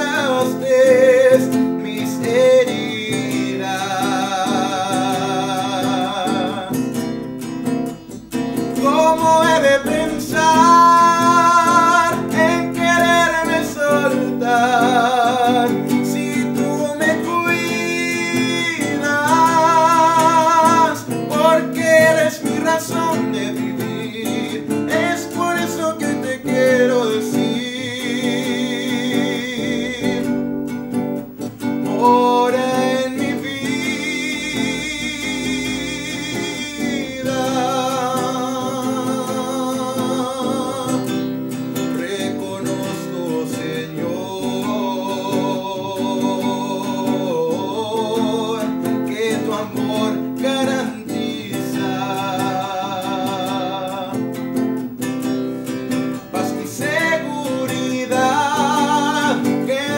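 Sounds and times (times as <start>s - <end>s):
classical guitar: 0.0s - 59.9s
man singing: 0.0s - 59.9s.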